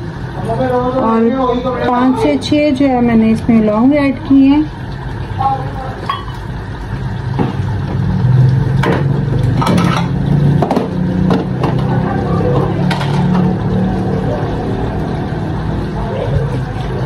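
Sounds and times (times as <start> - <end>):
pot of water heating rumble: 0.0 - 17.0
bubbles crackling and ticking: 1.9 - 17.0.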